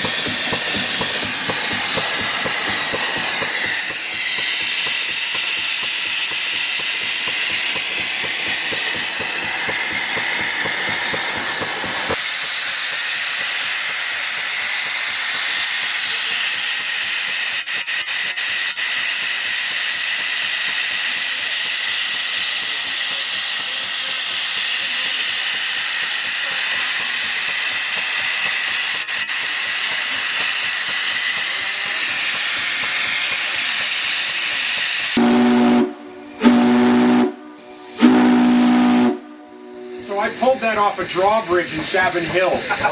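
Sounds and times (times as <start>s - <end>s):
loud hiss of escaping steam: 0.0s - 42.9s
steam engine running: 0.0s - 42.9s.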